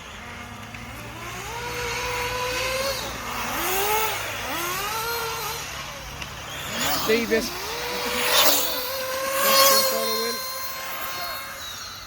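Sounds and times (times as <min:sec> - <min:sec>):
radio-controlled car motors whining: 0:00.0 - 0:12.0.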